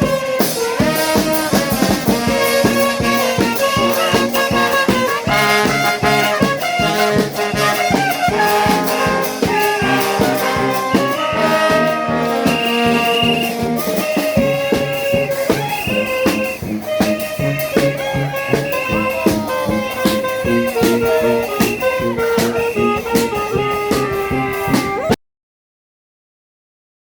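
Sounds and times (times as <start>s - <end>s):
brass and saxophones playing: 0.0s - 25.2s
steady drum beat: 0.0s - 25.2s.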